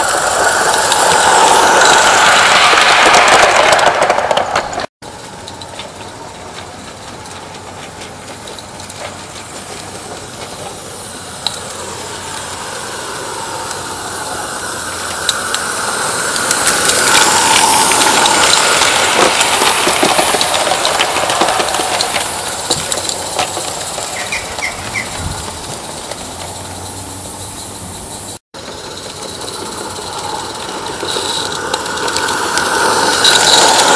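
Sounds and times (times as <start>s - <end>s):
locomotive wheels clicking on track: 0.0s - 33.9s
steam hissing: 0.0s - 33.9s.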